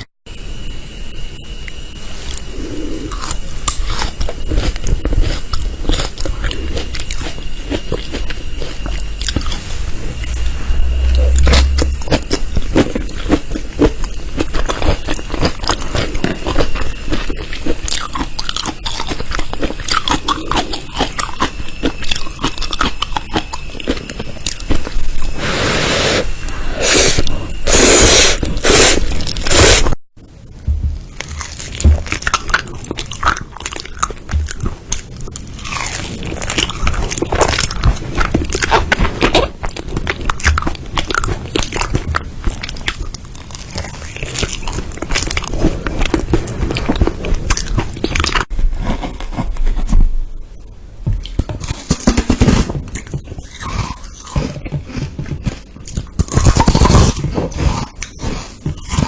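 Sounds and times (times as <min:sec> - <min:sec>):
crunchy chewing and biting: 0:01.6 - 0:25.7, 0:30.7 - 0:50.2, 0:51.2 - 0:59.0.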